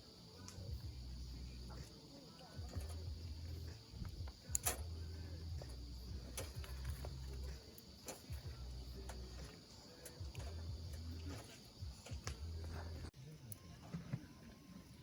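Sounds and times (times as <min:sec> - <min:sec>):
crickets chirping: 0:00.0 - 0:15.0
low uneven hum: 0:00.0 - 0:15.0.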